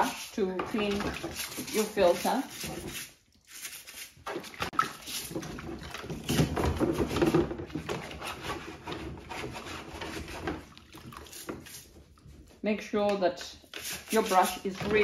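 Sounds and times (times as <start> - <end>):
brush scrubbing plastic filter: 0.0 - 15.0
water sloshing and splashing: 0.0 - 15.0.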